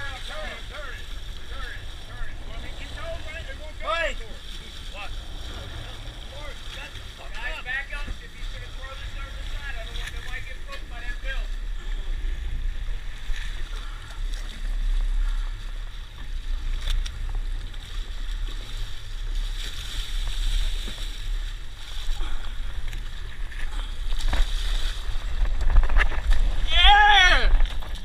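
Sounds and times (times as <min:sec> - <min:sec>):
boat engine rumbling: 0:00.0 - 0:28.0
water splashing along hull: 0:00.0 - 0:28.0.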